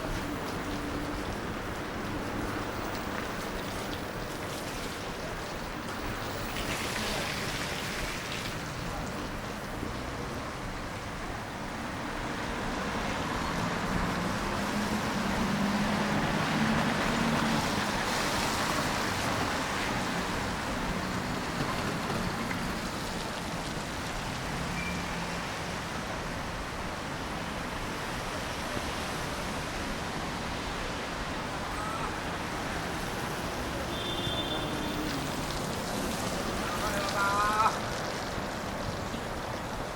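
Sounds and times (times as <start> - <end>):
city noise: 0.0 - 39.9
vehicle passing on wet road: 0.0 - 39.9.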